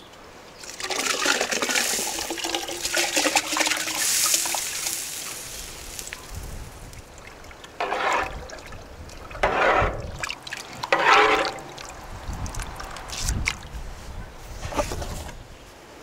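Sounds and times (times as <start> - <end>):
water pouring: 0.6 - 13.6.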